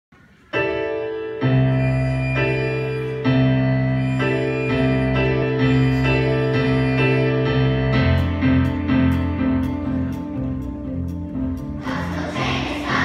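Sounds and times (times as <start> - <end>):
piano chords: 0.2 - 13.0.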